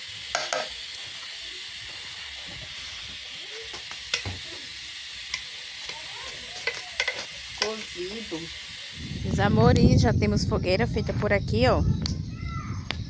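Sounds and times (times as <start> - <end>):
food sizzling in a pot: 0.0 - 10.8.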